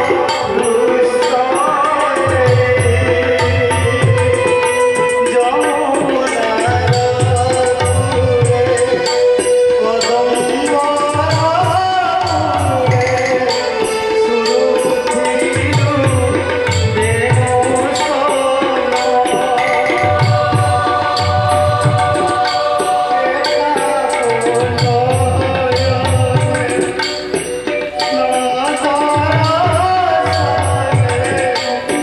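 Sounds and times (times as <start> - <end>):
keyboard melody: 0.0 - 32.0
tabla rhythm: 0.0 - 32.0.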